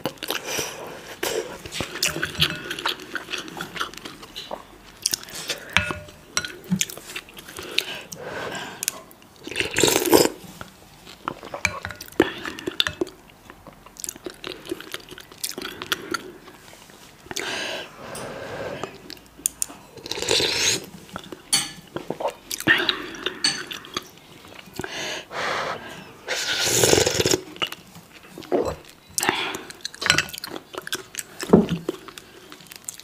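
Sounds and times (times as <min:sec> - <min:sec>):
slurping and chewing: 0:00.0 - 0:24.9, 0:25.7 - 0:33.0.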